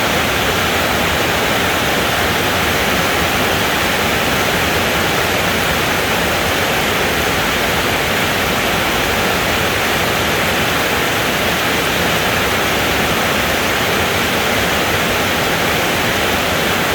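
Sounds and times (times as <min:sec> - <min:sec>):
steady rainfall hiss: 0:00.0 - 0:16.9.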